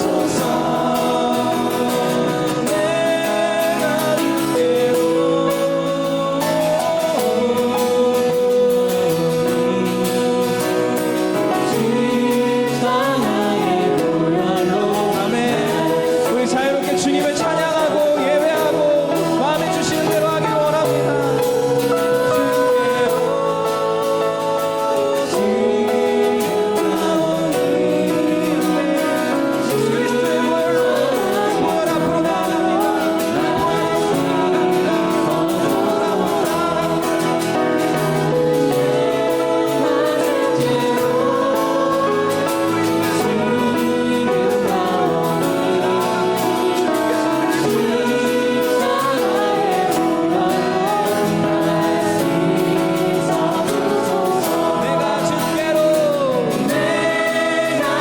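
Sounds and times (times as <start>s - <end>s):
instrumental accompaniment: 0.0s - 58.0s
many voices singing: 0.0s - 58.0s.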